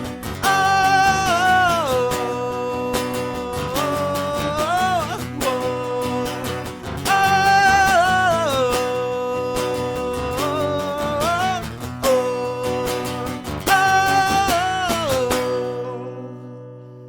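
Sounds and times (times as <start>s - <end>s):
man singing wordless notes: 0.0s - 17.0s
strummed guitar: 0.0s - 17.0s.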